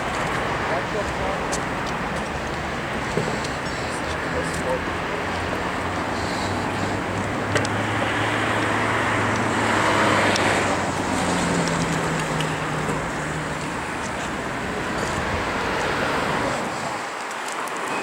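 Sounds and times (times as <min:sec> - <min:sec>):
low engine hum: 0:00.0 - 0:17.0
vehicles driving past: 0:00.0 - 0:18.0.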